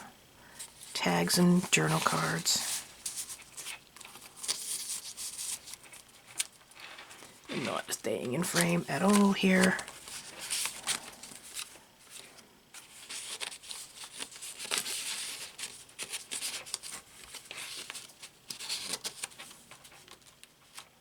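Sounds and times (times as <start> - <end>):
paper rustling and crinkling: 0.5 - 21.0.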